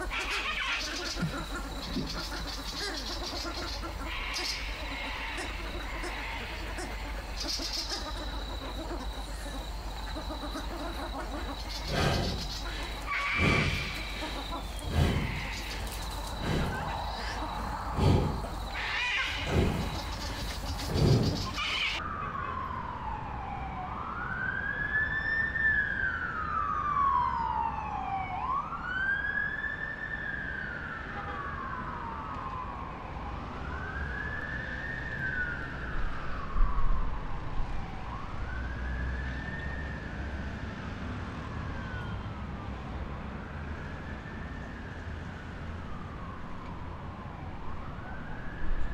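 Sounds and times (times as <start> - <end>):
siren wailing: 0.0 - 42.3.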